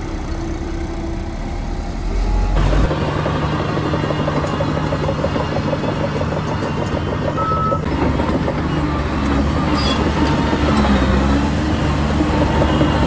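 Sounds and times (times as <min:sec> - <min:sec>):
diesel engine drone: 0:00.0 - 0:13.0.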